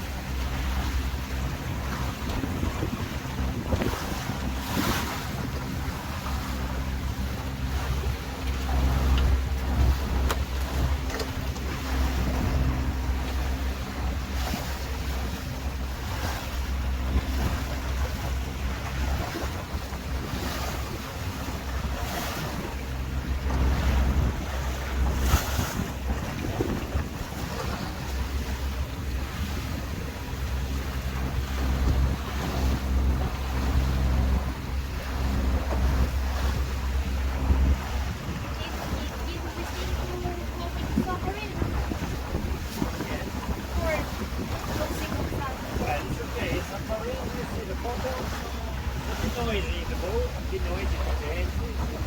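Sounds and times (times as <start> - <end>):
boat engine droning: 0.0 - 52.0
sea rushing past hull: 0.0 - 52.0
wind buffeting microphone: 0.0 - 52.0.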